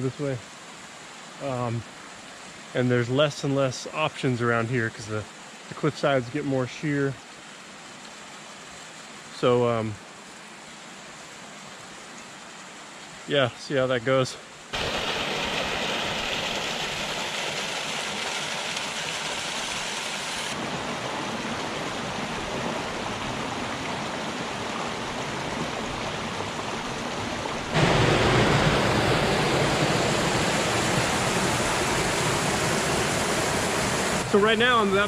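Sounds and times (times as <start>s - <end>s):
runoff water rushing: 0.0s - 35.0s.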